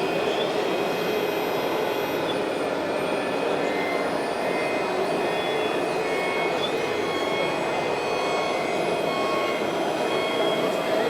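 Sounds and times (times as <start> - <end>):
small electric motors whining: 0.0 - 11.0.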